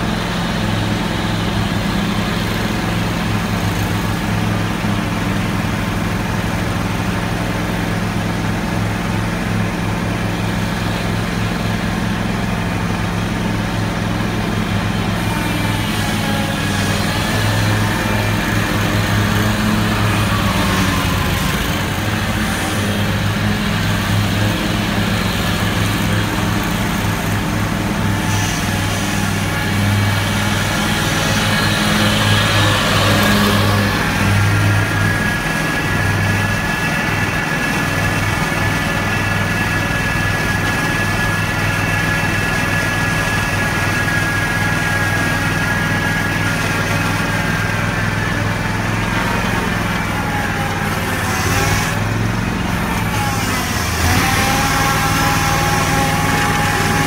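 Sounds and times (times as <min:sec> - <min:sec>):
mower engine running: 0:00.0 - 0:57.0.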